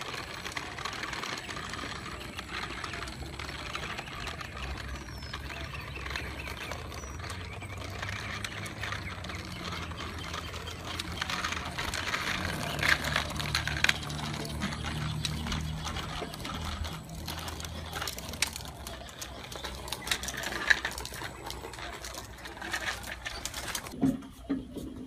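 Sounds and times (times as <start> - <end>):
bicycle wheels crackling on grit: 0.0 - 24.4.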